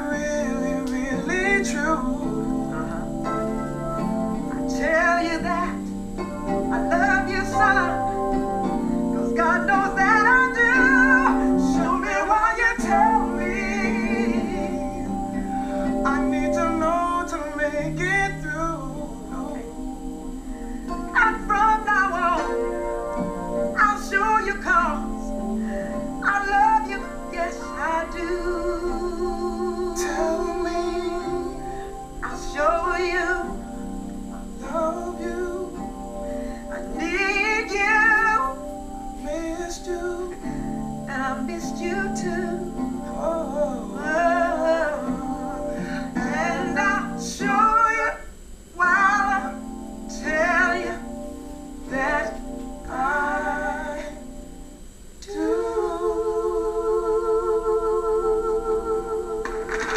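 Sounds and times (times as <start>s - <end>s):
man singing: 0.0s - 3.7s, 4.5s - 20.0s, 20.9s - 22.8s, 23.7s - 51.2s, 51.9s - 54.4s, 55.2s - 59.9s
electronic keyboard chords: 0.0s - 59.9s.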